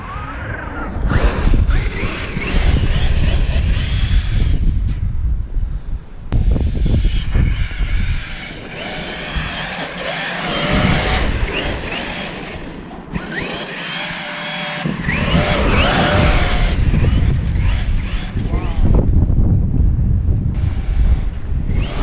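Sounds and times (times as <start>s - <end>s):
electric motors whining: 0.0s - 5.0s, 6.3s - 19.6s, 20.5s - 22.0s
wind rumble on microphone: 0.0s - 22.0s.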